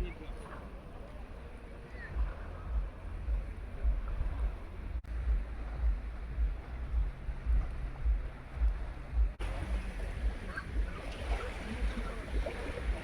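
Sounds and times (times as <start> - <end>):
sea wash: 0.0 - 13.0
wind buffeting microphone: 0.0 - 13.0.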